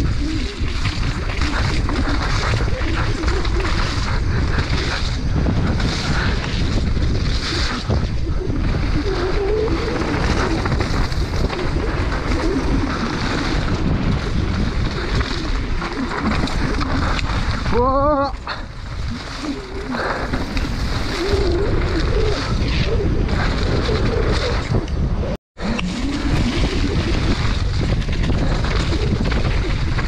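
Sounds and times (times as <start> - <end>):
tyres rumbling on dirt trail: 0.0 - 30.0
wind rushing over microphone: 0.0 - 30.0.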